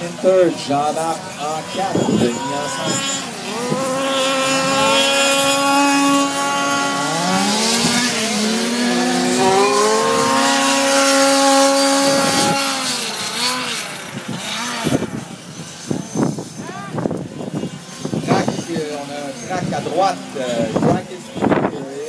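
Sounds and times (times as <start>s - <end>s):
model race car motors whining: 0.0s - 22.0s.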